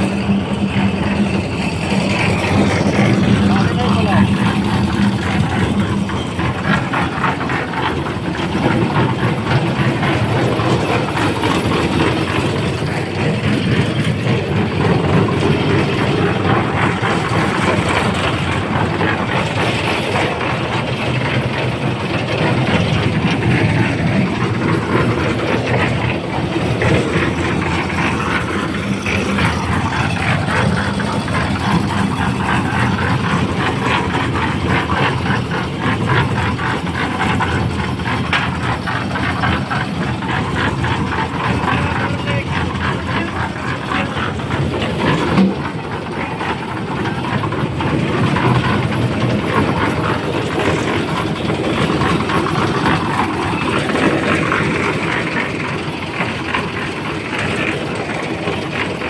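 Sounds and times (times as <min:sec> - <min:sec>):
engine-driven machinery rattling: 0:00.0 - 0:59.0.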